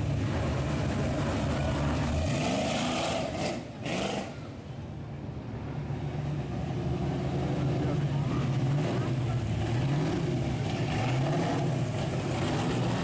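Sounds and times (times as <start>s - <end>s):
loud car engine accelerating: 0.0s - 4.5s, 6.3s - 13.0s.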